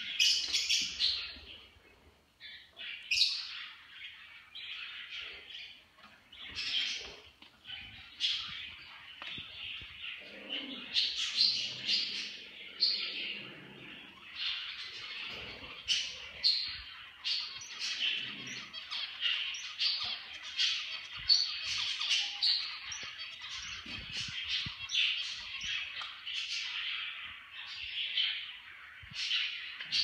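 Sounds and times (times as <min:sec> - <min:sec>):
caged birds chirping: 0:00.0 - 0:30.0.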